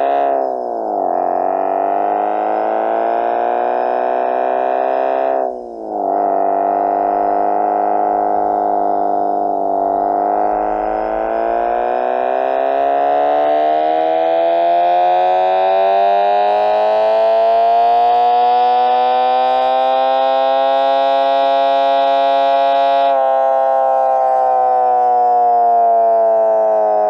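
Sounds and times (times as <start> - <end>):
buzzy electronic engine-like tone: 0.0 - 27.0.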